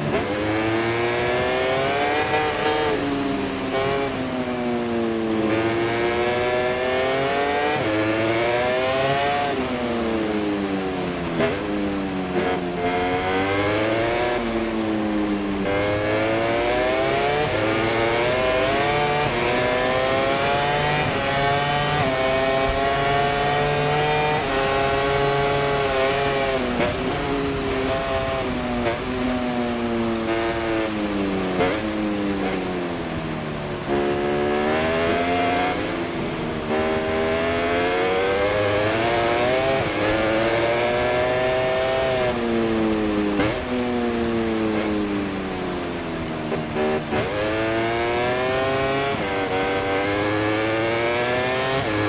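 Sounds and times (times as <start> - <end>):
racing motorcycle engine revving: 0.0 - 52.0.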